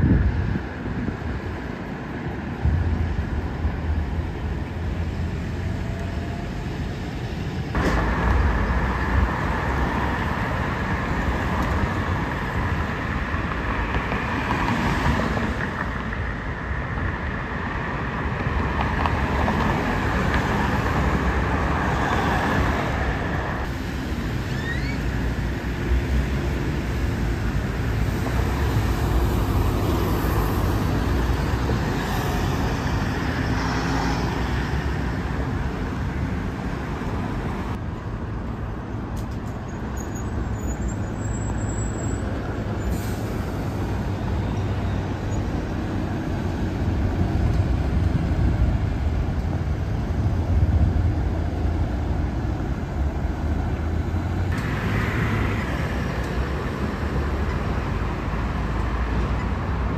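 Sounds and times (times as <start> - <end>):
bus engines rumbling: 0.0 - 59.9
cars passing: 0.0 - 59.9.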